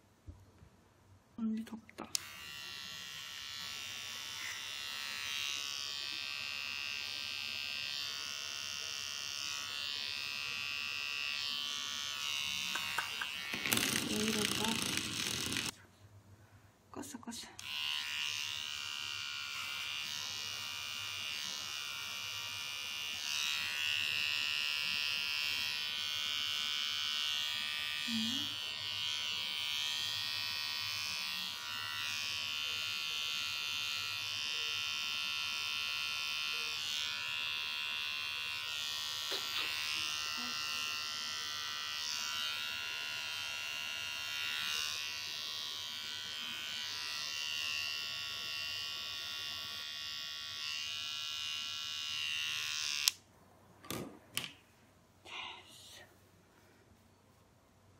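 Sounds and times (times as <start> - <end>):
electric pet trimmer buzzing: 2.1 - 15.8, 17.6 - 53.2.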